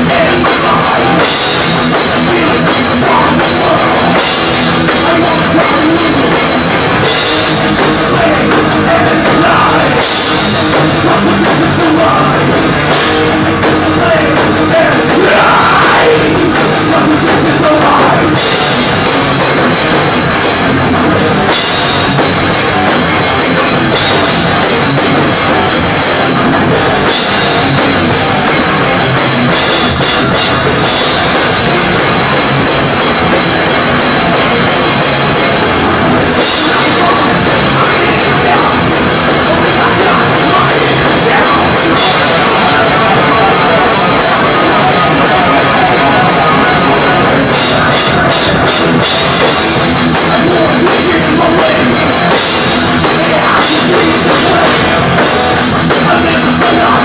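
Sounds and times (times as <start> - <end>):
drum kit: 0.0 - 57.0
metal band playing live: 0.0 - 57.0.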